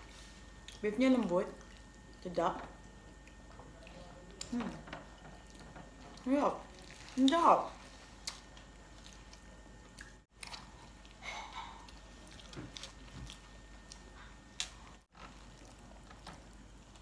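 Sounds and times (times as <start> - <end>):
faint chewing and biting: 3.1 - 17.0.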